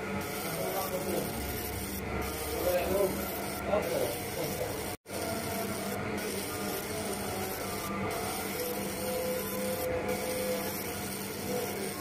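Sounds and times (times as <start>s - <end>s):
laser marking machine hiss: 0.0s - 12.0s.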